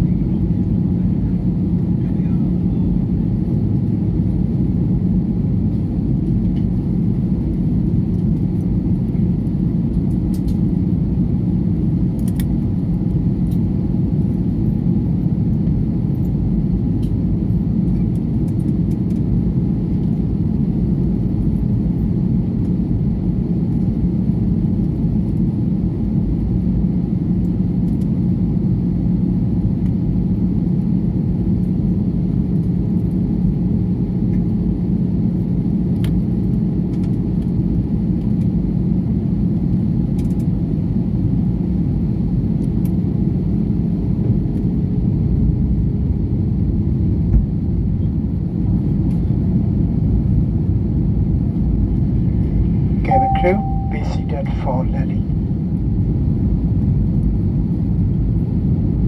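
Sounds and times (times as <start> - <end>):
jet airliner cabin rumble: 0.0 - 59.0.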